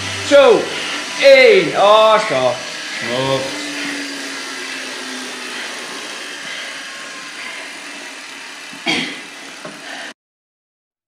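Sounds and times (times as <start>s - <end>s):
electric fan blowing: 0.0s - 10.1s.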